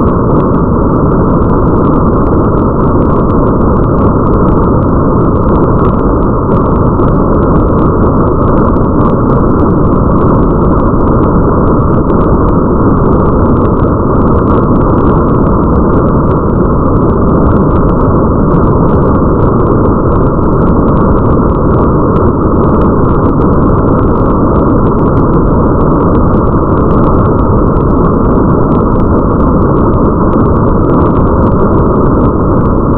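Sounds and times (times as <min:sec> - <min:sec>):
muffled rain hiss: 0:00.0 - 0:32.9
raindrops pattering: 0:00.0 - 0:32.9.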